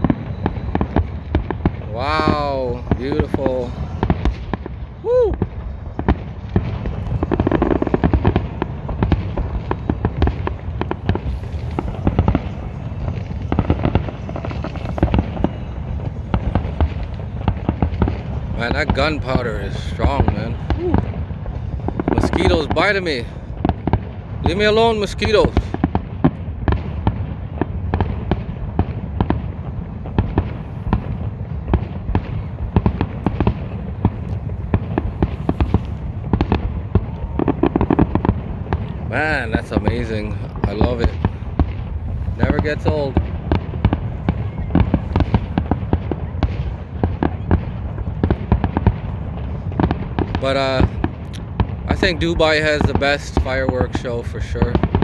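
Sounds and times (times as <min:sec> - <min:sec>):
low rumble: 0:00.0 - 0:53.0
fireworks crackling and popping: 0:00.0 - 0:55.0.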